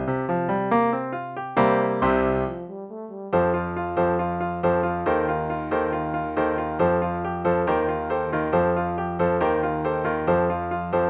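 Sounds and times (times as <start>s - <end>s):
keyboard chords: 0.0s - 11.0s.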